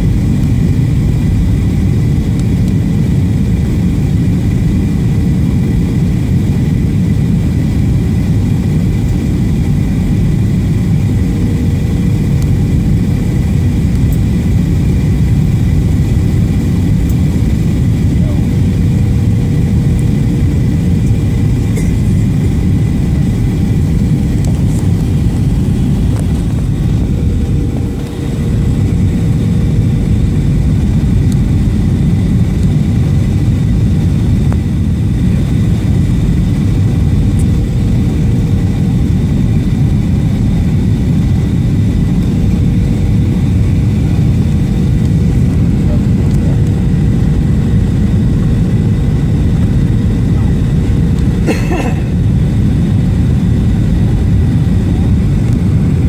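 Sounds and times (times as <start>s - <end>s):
engine and rushing air rumble: 0.0s - 56.0s
thin steady whine: 0.0s - 56.0s.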